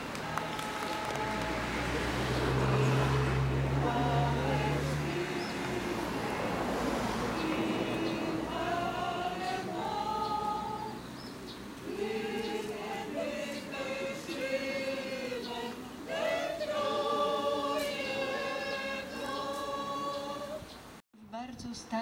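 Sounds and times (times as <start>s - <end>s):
mixed choir singing: 0.0s - 21.0s.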